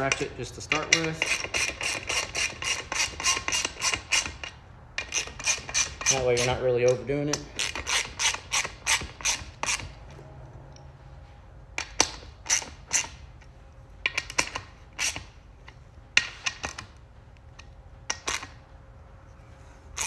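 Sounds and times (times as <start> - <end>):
hand ratchet clicking: 0.0 - 10.0, 11.8 - 18.6.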